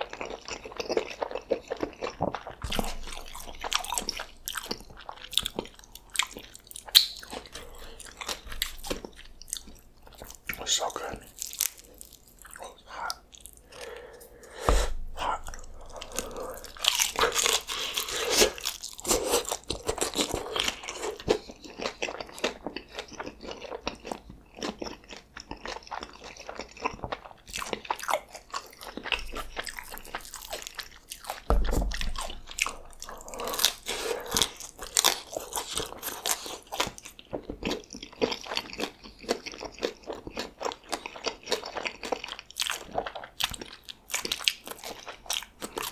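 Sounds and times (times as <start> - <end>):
crunchy taco chewing: 0.0 - 45.9.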